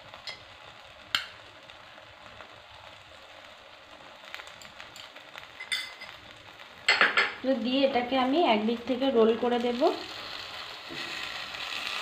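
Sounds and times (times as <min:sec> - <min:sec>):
omelette sizzling in a pan: 0:00.0 - 0:12.0.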